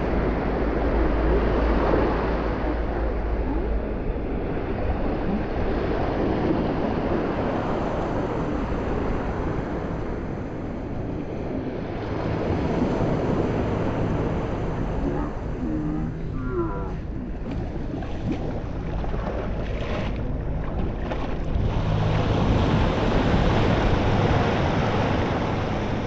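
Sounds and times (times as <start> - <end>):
ocean surf washing onto beach: 0.0 - 26.0
wind rumbling on microphone: 0.0 - 26.0.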